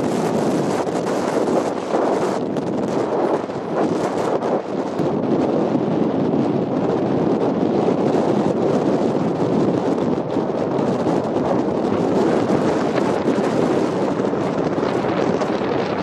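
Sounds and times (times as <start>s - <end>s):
car engine and tyres on road: 0.0s - 16.0s
wind on microphone: 0.0s - 16.0s.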